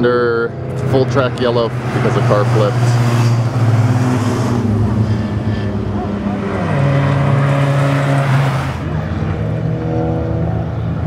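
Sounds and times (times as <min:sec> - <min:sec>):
race car engine drone: 0:00.0 - 0:11.0.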